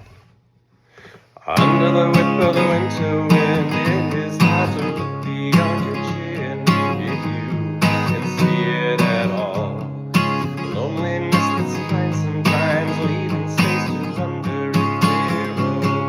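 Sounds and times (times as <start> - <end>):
acoustic guitar strumming: 1.4 - 16.0.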